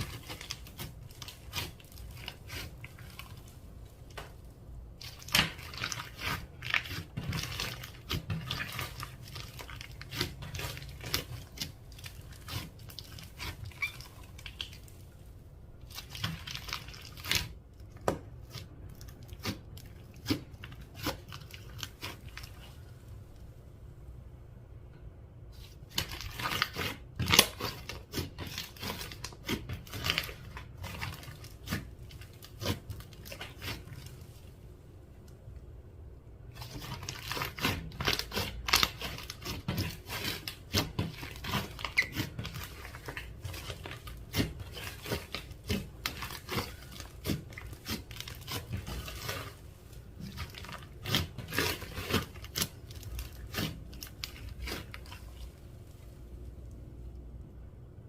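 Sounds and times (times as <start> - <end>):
slime crackling and popping: 0.0 - 22.8, 25.8 - 34.6, 36.5 - 56.1.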